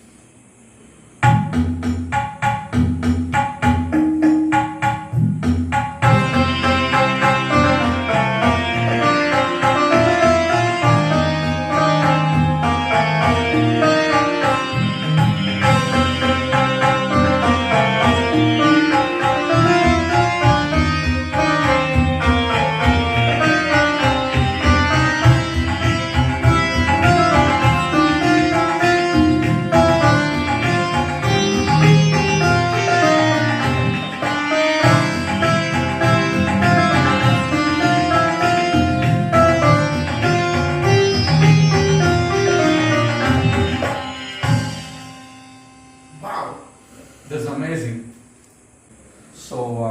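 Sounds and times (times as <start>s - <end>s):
keyboard sitar melody: 1.0s - 47.9s
keyboard rhythm beat: 1.2s - 45.3s.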